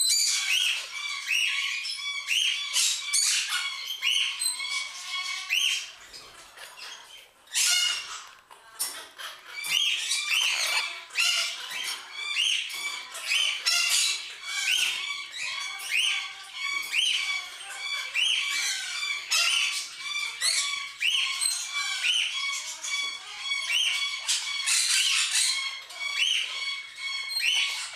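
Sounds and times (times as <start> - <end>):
conures squawking and chattering: 0.0 - 27.9.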